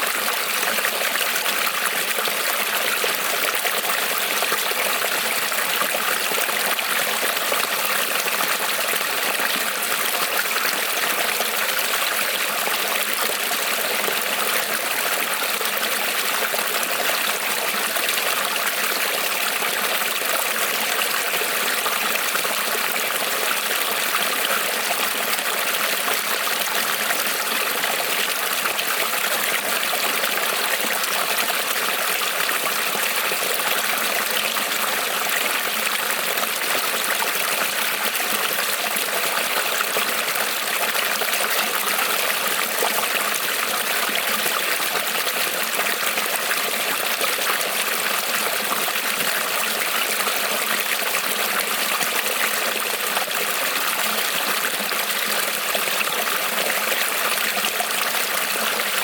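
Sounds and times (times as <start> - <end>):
creek trickling over stones: 0.0 - 59.0.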